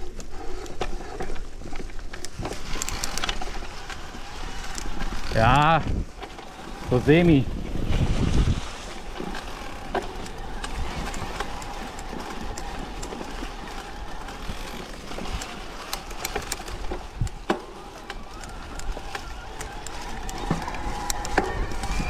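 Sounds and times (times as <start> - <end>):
bike tyres rustling over leaves: 0.0 - 22.0
clicks and knocks from bike: 0.0 - 22.0.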